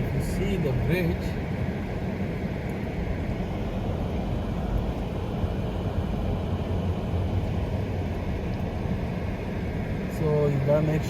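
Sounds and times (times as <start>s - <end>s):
car driving slowly: 0.0s - 11.0s.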